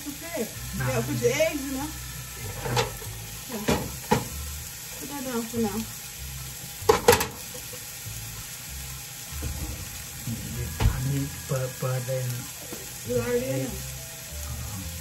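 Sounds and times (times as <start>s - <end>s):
frying pan sizzling: 0.0s - 15.0s.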